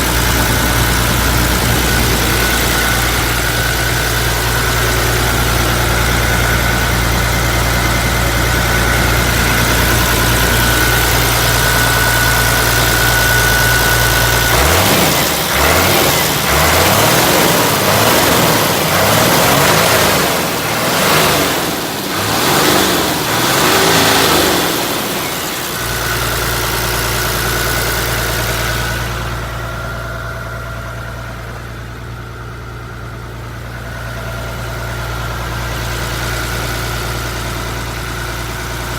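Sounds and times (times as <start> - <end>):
diesel truck engine revving: 0.0 - 38.9.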